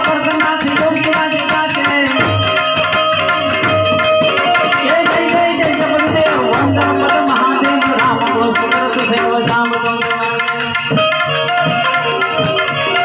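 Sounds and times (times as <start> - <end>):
hand drum rhythm: 0.0 - 13.0
held melody line: 0.0 - 13.0
shaker-like percussion: 0.0 - 13.0.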